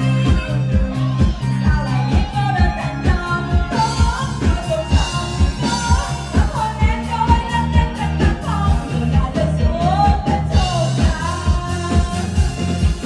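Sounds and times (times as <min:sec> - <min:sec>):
live band playing pop song: 0:00.0 - 0:13.0
person singing: 0:00.0 - 0:13.0.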